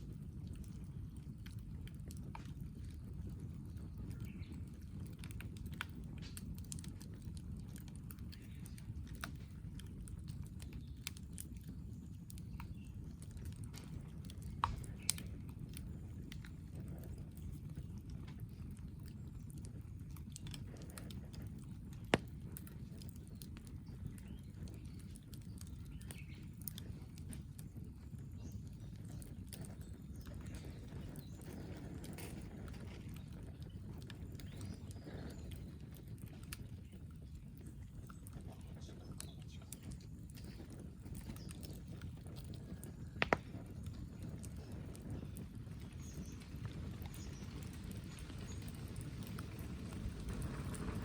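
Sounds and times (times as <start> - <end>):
campfire crackling: 0.0 - 51.0
loud fire snaps: 0.0 - 51.0.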